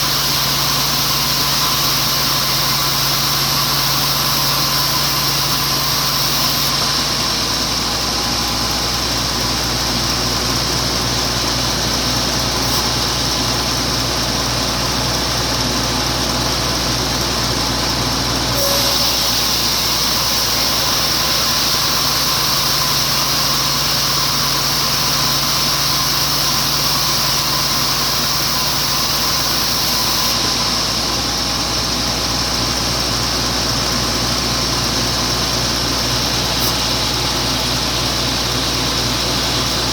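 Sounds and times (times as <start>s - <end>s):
sawmill log carriage running: 0.0s - 39.9s.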